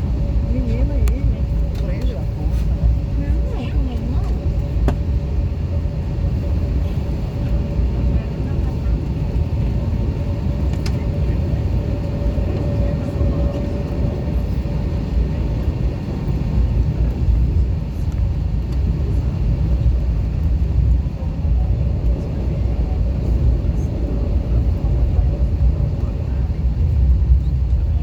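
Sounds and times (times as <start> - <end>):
aircraft cabin low rumble: 0.0 - 28.0.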